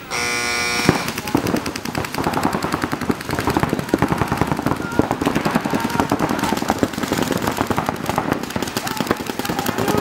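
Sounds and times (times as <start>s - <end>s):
paintball markers firing rapidly: 0.8s - 10.0s.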